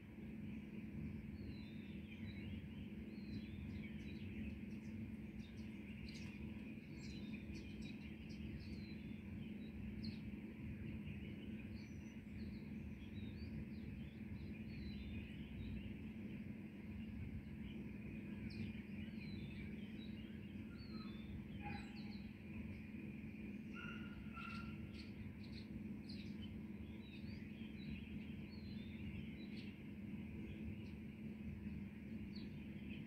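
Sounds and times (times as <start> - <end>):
low background hum: 0.0 - 33.0
birds chirping: 1.3 - 33.0.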